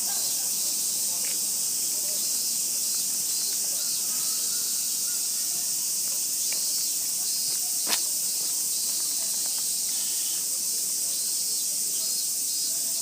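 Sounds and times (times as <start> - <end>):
cicadas chorus: 0.0 - 13.0.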